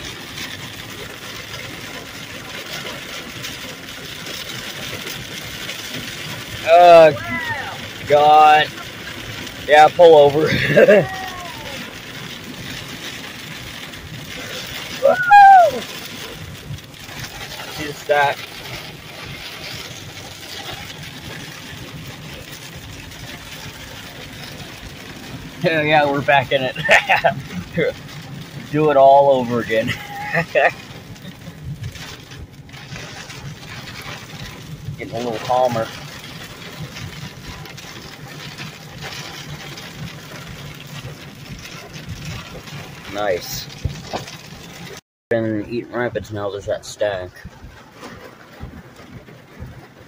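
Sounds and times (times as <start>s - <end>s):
car engine running: 0.0s - 50.0s
rain hitting windshield and roof: 0.0s - 50.0s
tyres hissing on wet road: 0.0s - 50.0s.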